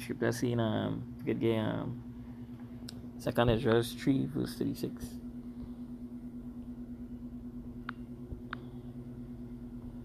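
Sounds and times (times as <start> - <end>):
low hum with faint pulse: 0.0 - 10.0.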